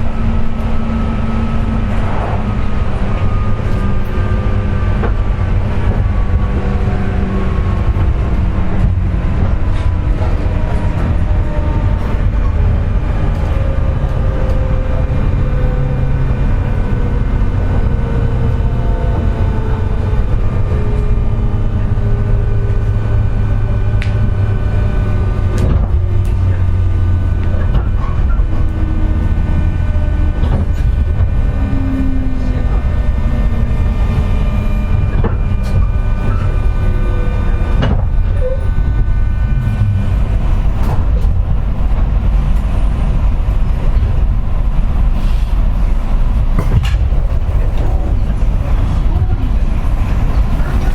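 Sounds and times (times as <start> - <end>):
electric motor tones gliding down: 0.0 - 42.8
deep train rumble: 0.0 - 50.9
high-pitched motor whine: 0.0 - 50.9.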